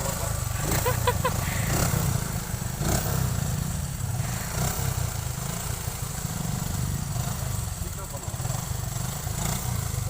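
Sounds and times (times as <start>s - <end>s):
motorcycle engine rumble: 0.0s - 10.0s.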